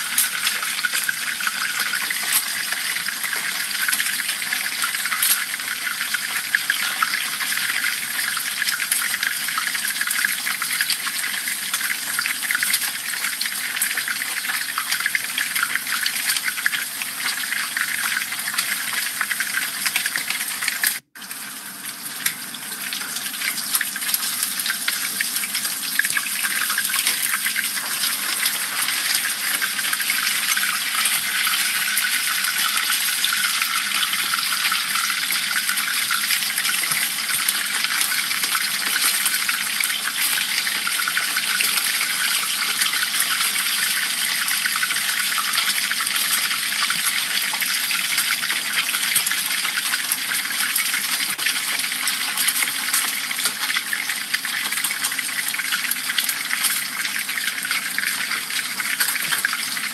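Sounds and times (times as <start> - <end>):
hot oil sizzling and bubbling: 0.0 - 59.9.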